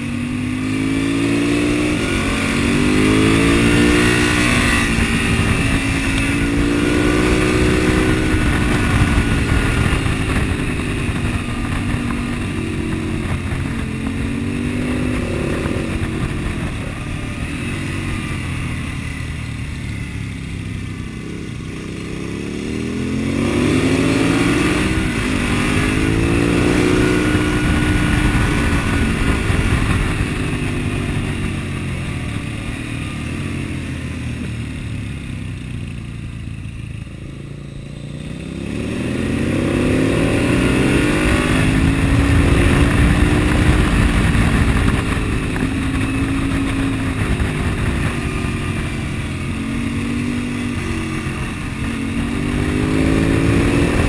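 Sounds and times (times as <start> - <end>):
wind rushing over microphone: 0.0 - 34.4, 38.4 - 54.0
motorcycle engine revving: 0.0 - 54.0.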